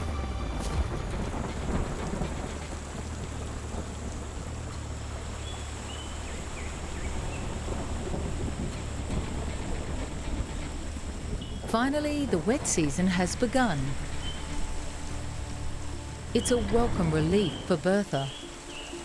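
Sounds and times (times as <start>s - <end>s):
heavy rain falling: 0.0s - 19.0s
low rumble of thunder: 0.0s - 19.0s.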